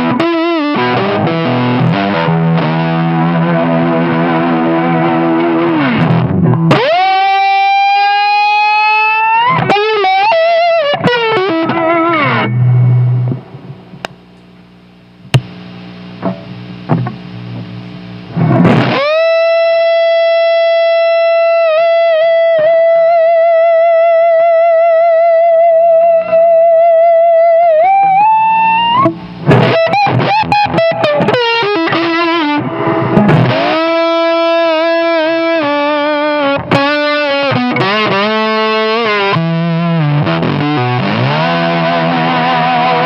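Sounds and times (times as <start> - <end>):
slide electric guitar: 0.0 - 14.1, 15.2 - 43.0.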